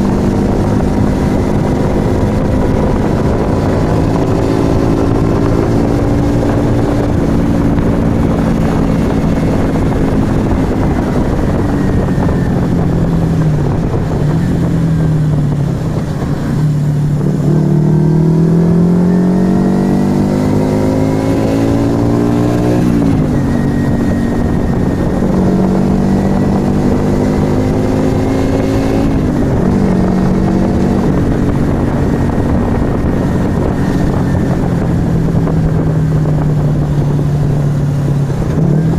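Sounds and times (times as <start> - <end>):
motorcycle engine revving: 0.0 - 38.9
road noise: 0.0 - 38.9
wind: 0.0 - 38.9.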